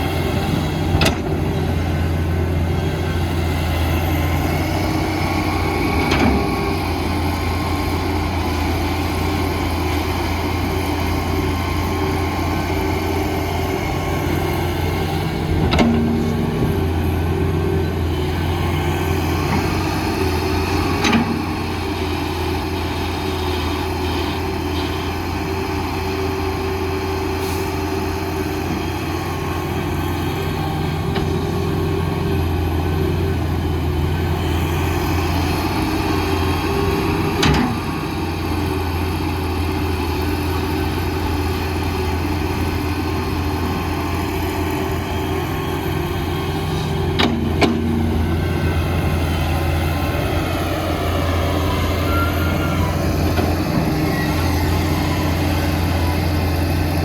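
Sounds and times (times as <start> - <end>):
diesel machinery engine hum: 0.0 - 57.0.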